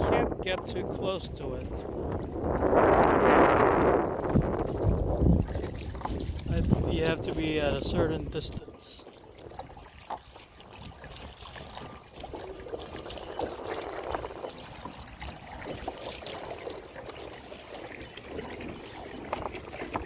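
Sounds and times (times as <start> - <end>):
water splashing around kayak: 0.0 - 20.0.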